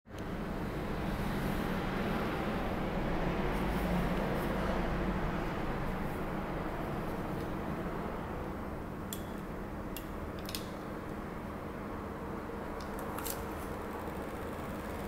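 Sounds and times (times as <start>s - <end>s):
steady low background noise: 0.1s - 15.0s.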